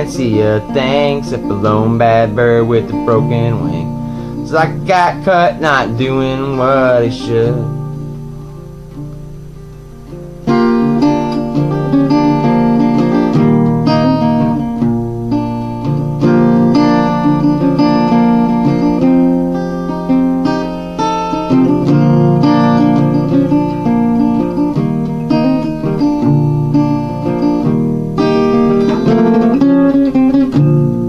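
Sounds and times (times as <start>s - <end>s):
acoustic guitar picking: 0.0s - 31.0s.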